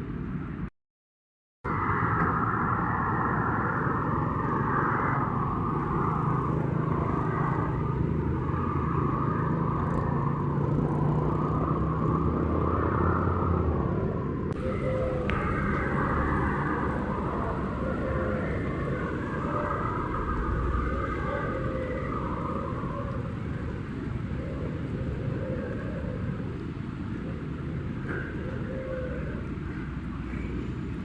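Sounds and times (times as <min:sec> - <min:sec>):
vehicle engine hum: 0:01.7 - 0:31.0.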